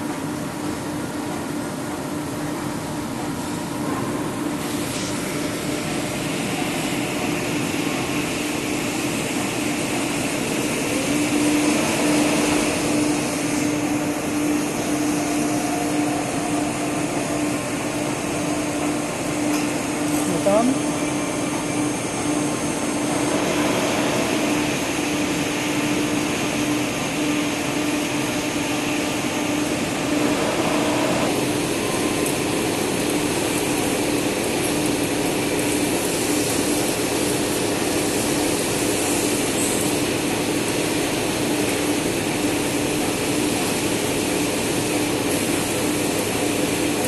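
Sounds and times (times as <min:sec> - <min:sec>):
machine motor hum: 0:02.2 - 0:47.0
machine hiss: 0:04.6 - 0:47.0.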